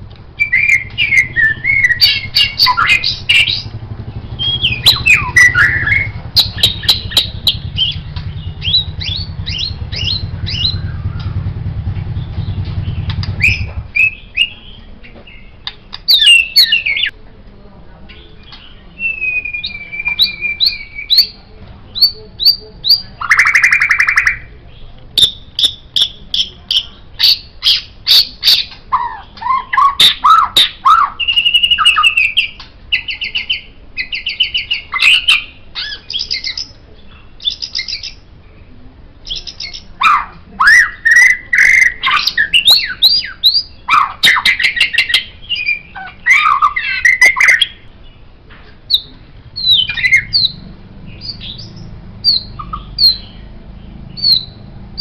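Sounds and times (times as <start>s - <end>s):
songbird singing whistles and trills: 0.4s - 11.5s, 12.2s - 17.1s, 18.1s - 24.5s, 25.2s - 48.2s, 48.9s - 53.5s, 54.1s - 55.0s.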